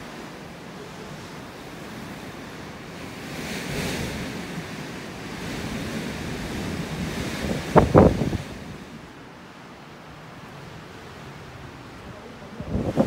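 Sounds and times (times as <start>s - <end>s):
wind gusting on microphone: 0.0s - 9.4s, 10.4s - 13.0s.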